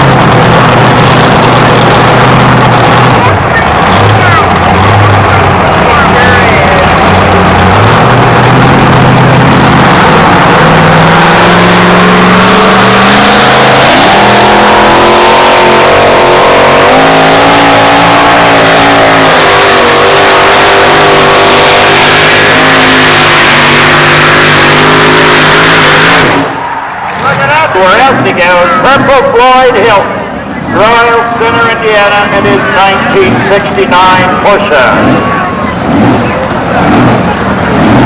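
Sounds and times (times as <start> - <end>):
truck engine at full throttle: 0.0 - 38.0.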